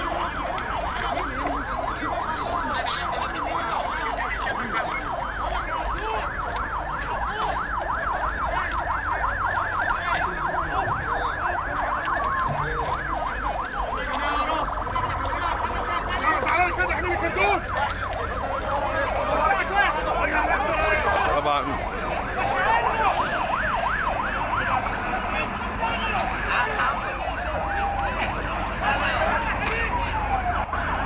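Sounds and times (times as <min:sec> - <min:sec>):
sirens yelping: 0:00.0 - 0:31.0.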